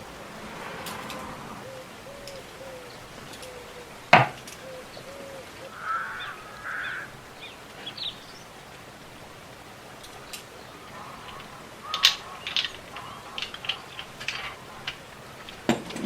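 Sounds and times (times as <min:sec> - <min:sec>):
bird hooting: 0:00.0 - 0:08.3, 0:10.7 - 0:15.7.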